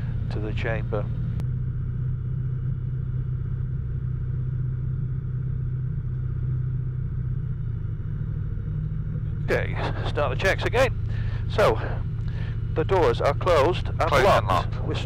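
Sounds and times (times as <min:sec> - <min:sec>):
aircraft engine drone in cabin: 0:00.0 - 0:15.0.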